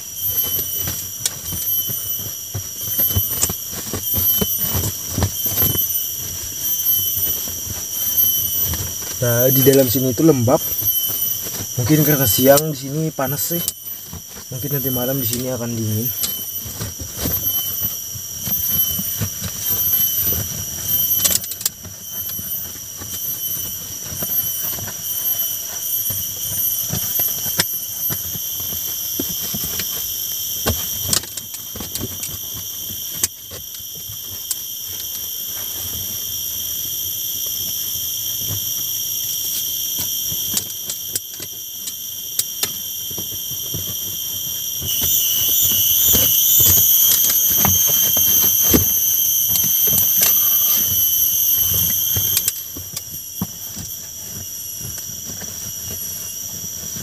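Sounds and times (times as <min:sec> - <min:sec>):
rustling: 0:00.0 - 0:57.0
shrill insect drone: 0:00.0 - 0:57.0.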